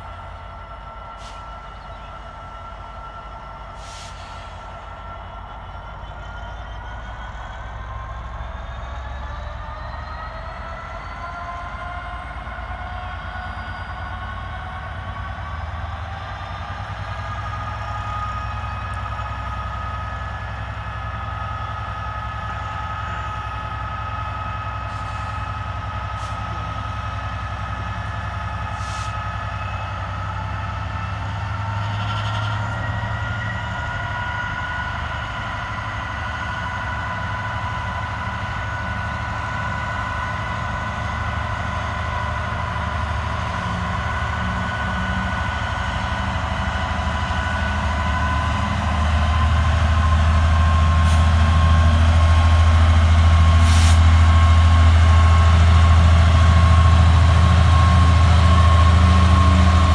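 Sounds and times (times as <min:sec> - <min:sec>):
diesel locomotive working hard: 0:00.0 - 0:59.9
rising engine whine: 0:00.0 - 0:59.9.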